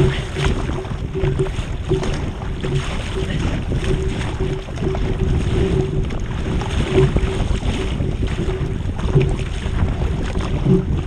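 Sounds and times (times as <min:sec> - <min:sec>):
water splashing against hull: 0:00.0 - 0:11.0
wind buffeting microphone: 0:00.0 - 0:11.0.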